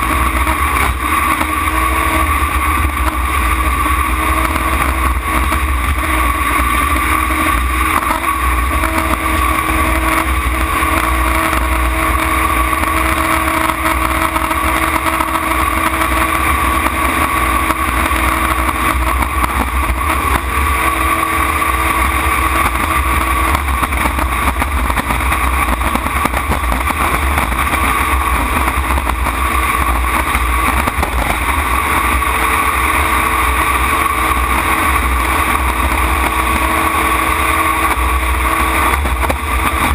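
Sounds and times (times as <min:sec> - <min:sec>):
jet boat engine running hard: 0:00.0 - 0:39.9
rush of wind and water: 0:00.0 - 0:39.9.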